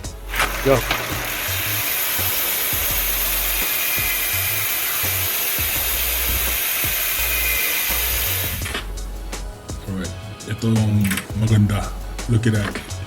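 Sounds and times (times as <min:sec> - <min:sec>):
high hiss: 0:00.0 - 0:11.5
background music with bass and beat: 0:00.0 - 0:13.0.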